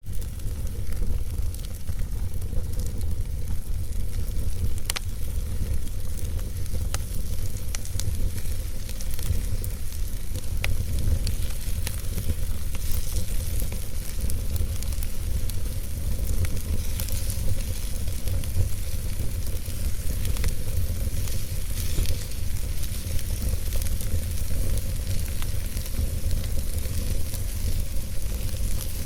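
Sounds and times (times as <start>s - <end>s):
fire crackles and pops: 0.0s - 29.0s
wood fire burning: 0.0s - 29.0s.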